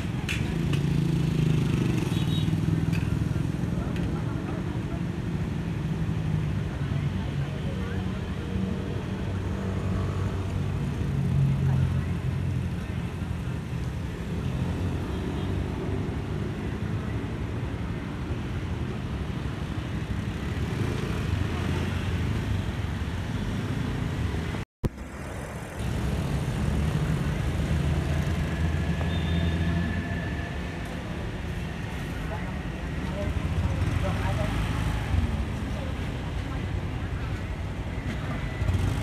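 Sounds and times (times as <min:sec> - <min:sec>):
passing cars and scooters: 0:00.0 - 0:39.0.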